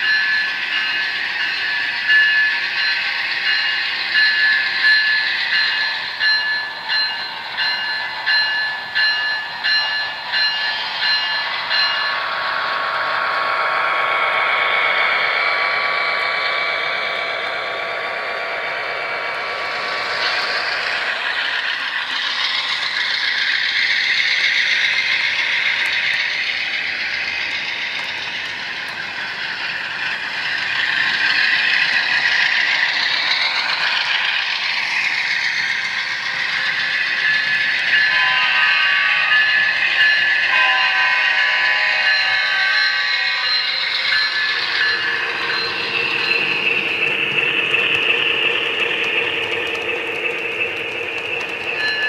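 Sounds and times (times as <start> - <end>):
model trains rattling on track: 0.0 - 52.0.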